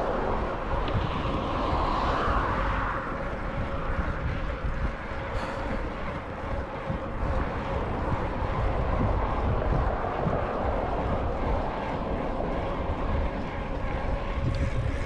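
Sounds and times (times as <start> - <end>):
tyres rumbling on pavement: 0.0 - 15.0
wind buffeting microphone: 0.0 - 15.0.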